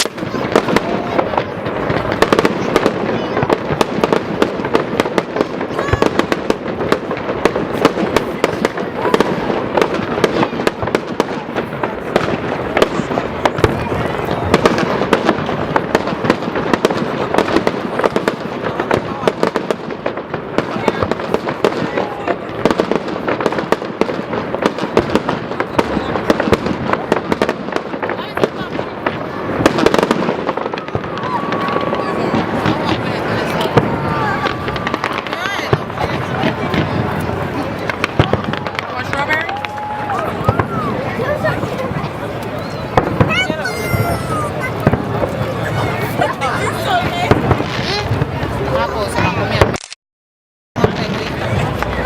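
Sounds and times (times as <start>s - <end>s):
fireworks bangs and crackles: 0.0s - 49.9s, 50.8s - 52.0s.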